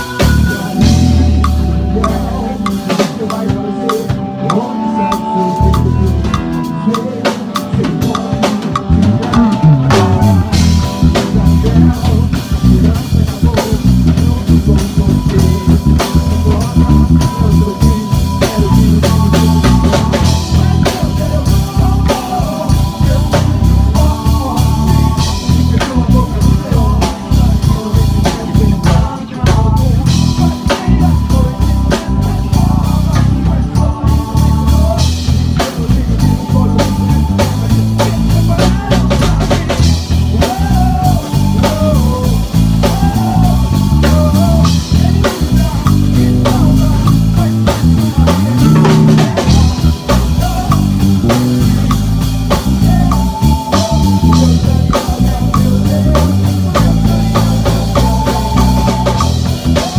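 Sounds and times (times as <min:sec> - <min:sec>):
electric bass guitar: 0:00.0 - 0:59.9
live band music: 0:00.0 - 0:59.9.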